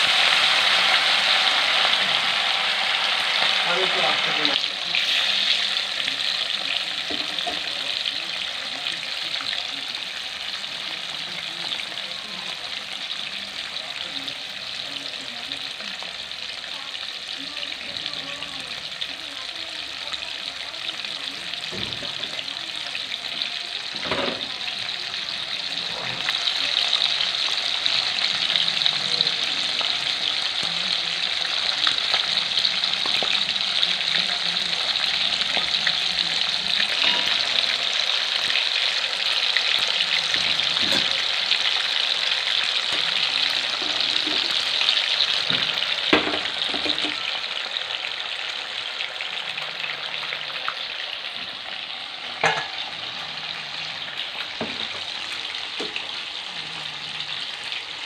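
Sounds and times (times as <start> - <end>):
fish sizzling in hot oil: 0.0 - 58.0.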